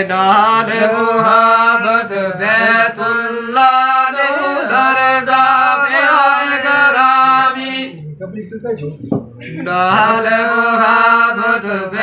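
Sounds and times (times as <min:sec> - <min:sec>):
men singing unaccompanied: 0:00.0 - 0:08.0, 0:09.4 - 0:12.0.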